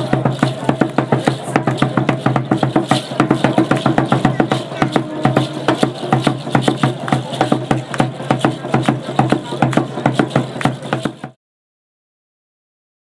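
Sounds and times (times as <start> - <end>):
ankle rattles shaking: 0.0 - 11.3
hand drum beating fast: 0.0 - 11.4.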